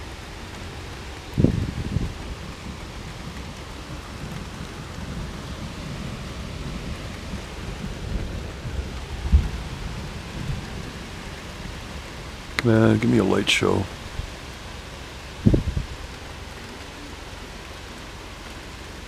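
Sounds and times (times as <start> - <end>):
thunder rumbling: 0.0 - 18.1
steady rain: 0.0 - 19.0.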